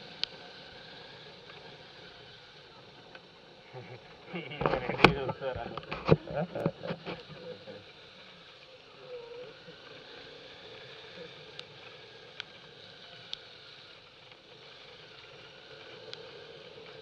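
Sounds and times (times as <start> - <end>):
motorcycle running at low speed: 0.0 - 17.0.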